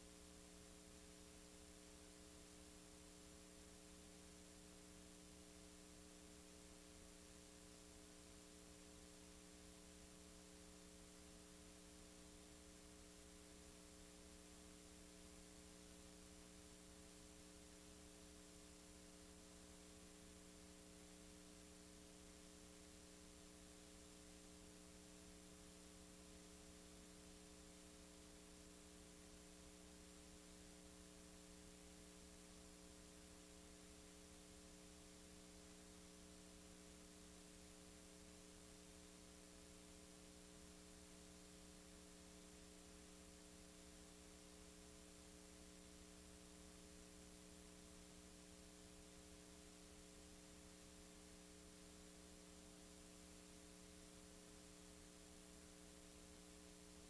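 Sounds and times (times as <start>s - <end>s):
faint hiss: 0.0s - 57.0s.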